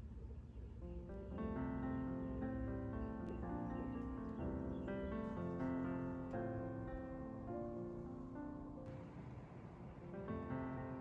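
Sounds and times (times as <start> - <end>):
slow piano music: 0.8 - 11.0.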